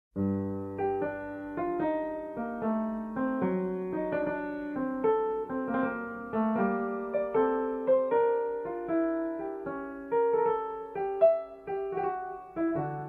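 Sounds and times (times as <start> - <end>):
slow piano melody: 0.2 - 13.0.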